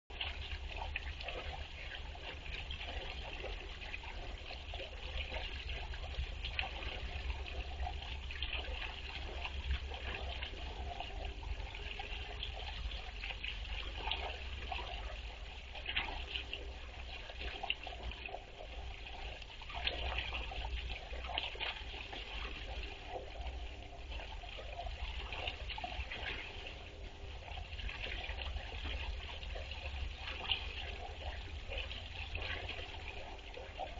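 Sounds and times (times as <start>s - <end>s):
fountain water trickling and splashing: 0.1s - 33.9s
low steady hum: 0.1s - 33.9s.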